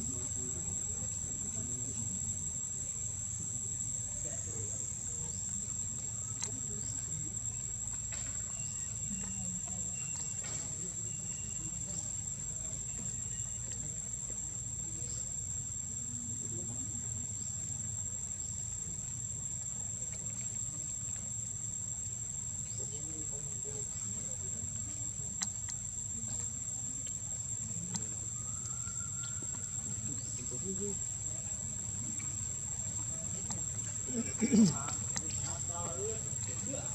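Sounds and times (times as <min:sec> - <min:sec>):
insect drone: 0:00.0 - 0:36.9.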